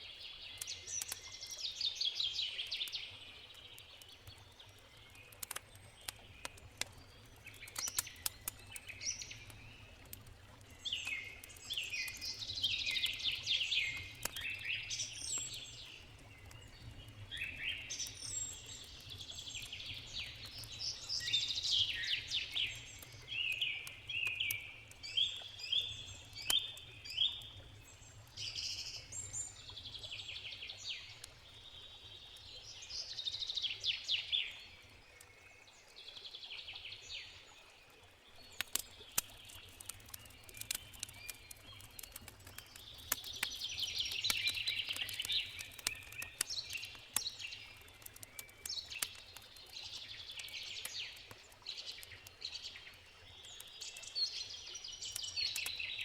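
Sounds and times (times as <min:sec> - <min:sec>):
songbirds chirping: 0:00.0 - 0:56.0
campfire crackling: 0:00.1 - 0:35.4, 0:38.2 - 0:56.0.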